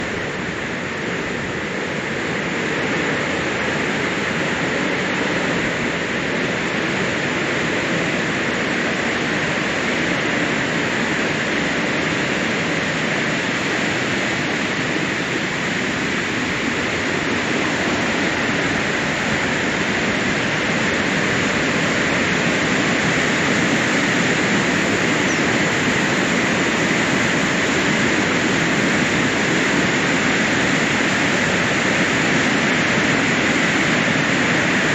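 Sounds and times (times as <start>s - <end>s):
water rushing over a dam: 0.0s - 34.9s.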